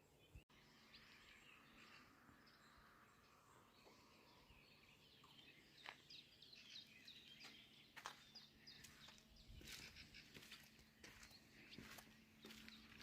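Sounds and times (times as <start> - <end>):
faint bird chirps: 0.5 - 13.0.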